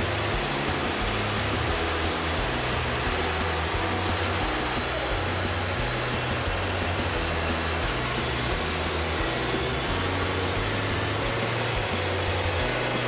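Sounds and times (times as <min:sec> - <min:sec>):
band saw cutting log: 0:00.0 - 0:13.0
sawmill engine hum: 0:00.0 - 0:13.0.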